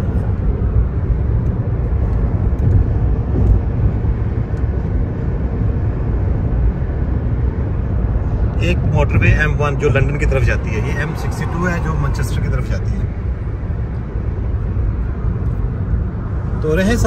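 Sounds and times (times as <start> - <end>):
car engine cruising: 0.0 - 17.0
tyres on road: 0.0 - 17.0.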